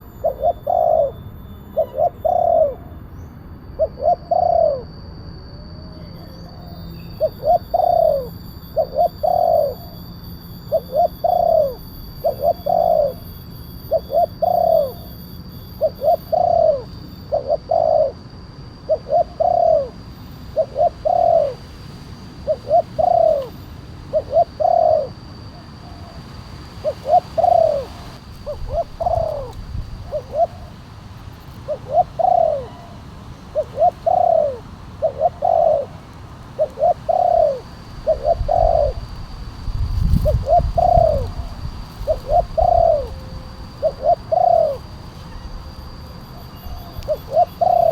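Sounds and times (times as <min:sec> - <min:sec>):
dove cooing: 0:00.0 - 0:05.1, 0:05.9 - 0:47.9.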